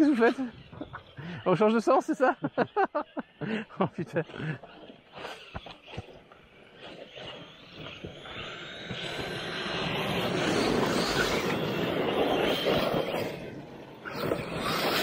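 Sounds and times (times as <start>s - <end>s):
rc truck motor whine: 0.0s - 15.0s.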